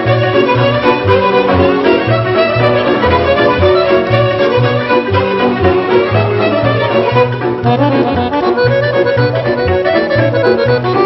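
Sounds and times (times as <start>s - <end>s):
fast accordion folk dance: 0.0s - 11.0s.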